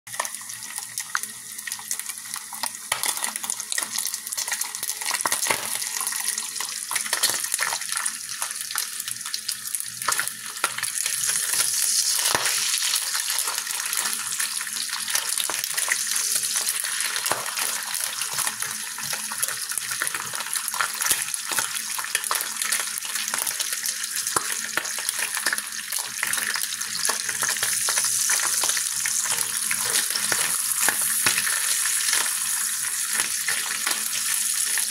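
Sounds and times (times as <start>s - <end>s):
bacon sizzling in a skillet: 0.1s - 34.9s.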